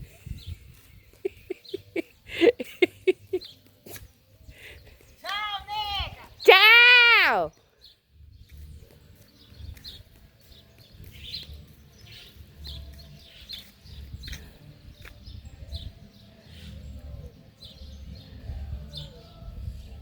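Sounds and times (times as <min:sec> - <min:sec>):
small birds chirping: 0:00.1 - 0:06.6, 0:07.5 - 0:20.0.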